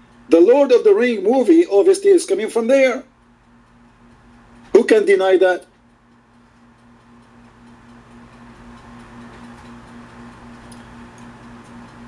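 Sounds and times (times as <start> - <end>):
faint irregular ticking: 0.0 - 12.0.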